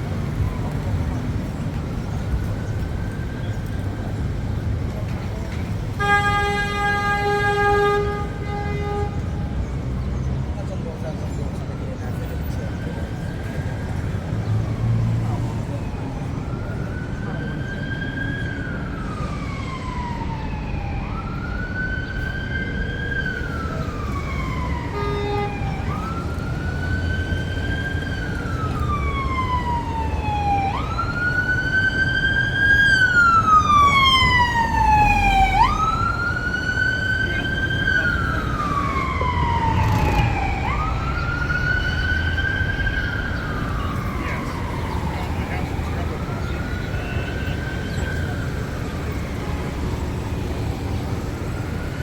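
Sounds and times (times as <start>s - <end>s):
emergency siren wailing: 0.0s - 9.6s, 11.8s - 52.0s
low rumble of city traffic: 0.0s - 52.0s.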